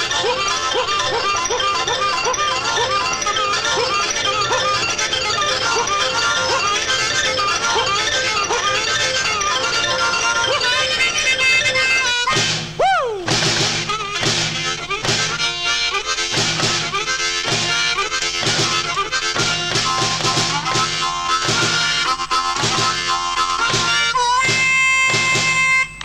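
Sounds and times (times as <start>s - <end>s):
blues harmonica: 0.0s - 26.0s.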